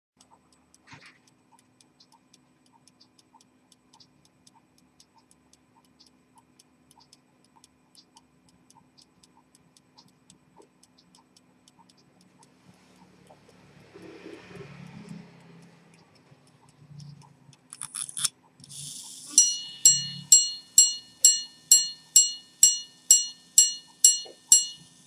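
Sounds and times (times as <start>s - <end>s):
pocket watch ticking: 0.2s - 25.0s.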